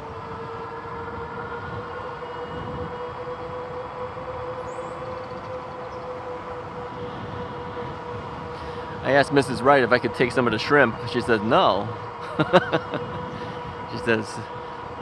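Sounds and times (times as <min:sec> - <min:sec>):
drivetrain whine: 0:00.0 - 0:15.0
road and wind rumble: 0:00.0 - 0:15.0.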